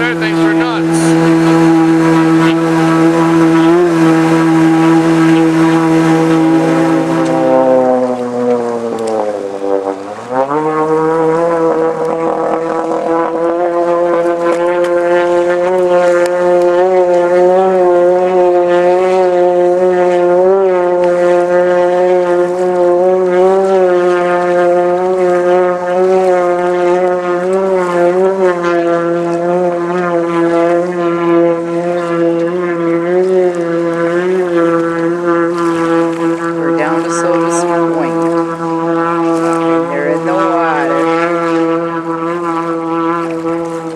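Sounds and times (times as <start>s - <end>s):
boat engine droning hum: 0.0s - 43.9s.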